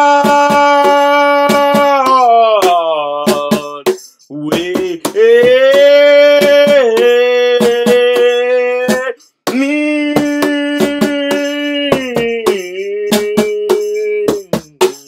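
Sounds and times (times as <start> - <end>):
cajon hits: 0.0 - 15.0
man singing long notes: 0.0 - 15.0.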